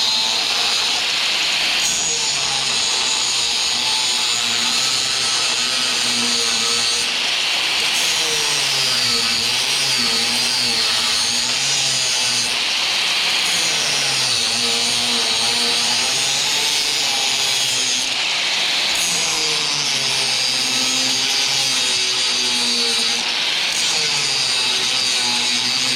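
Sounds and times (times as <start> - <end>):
angle grinder grinding steel: 0.0 - 25.9.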